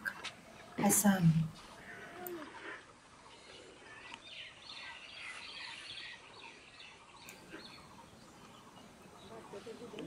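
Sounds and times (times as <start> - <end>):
faint birds chirping: 0.0 - 10.0
open-air ambience: 0.0 - 10.0.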